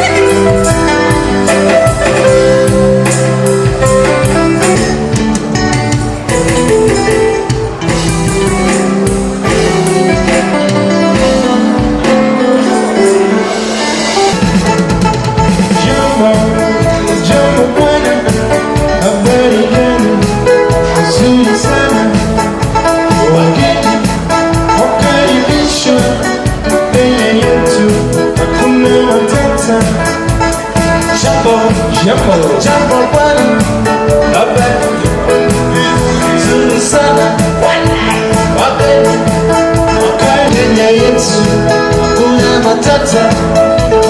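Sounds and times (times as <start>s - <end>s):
driving drum beat: 0.0s - 44.0s
upbeat music with singing: 0.0s - 44.0s.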